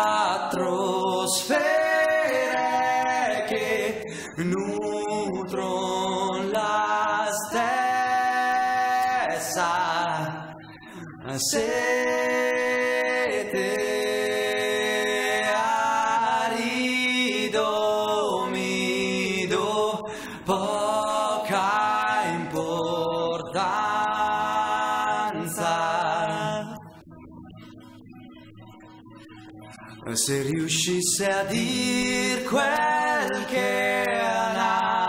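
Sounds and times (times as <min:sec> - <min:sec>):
wordless singing in harmony: 0:00.0 - 0:27.0, 0:30.0 - 0:35.0.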